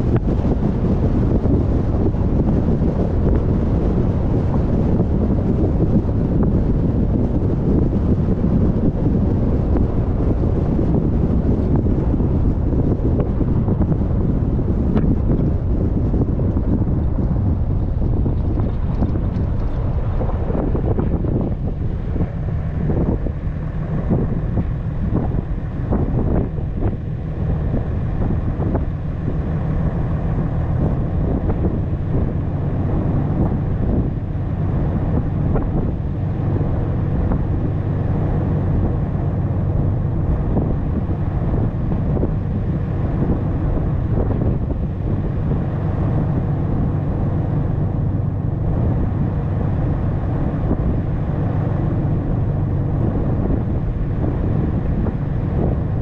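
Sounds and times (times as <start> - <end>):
engine and tyres rumbling: 0.0 - 56.0
wind buffeting microphone: 0.0 - 56.0.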